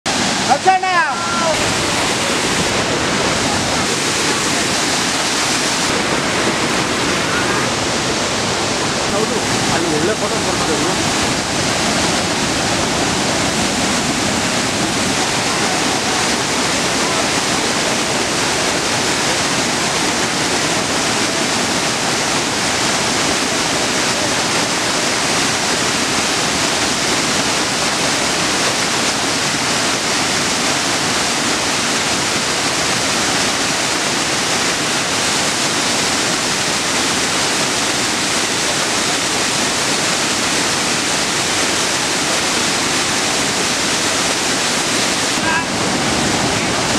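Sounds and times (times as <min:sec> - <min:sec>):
waterfall over rocks: 0:00.0 - 0:46.9.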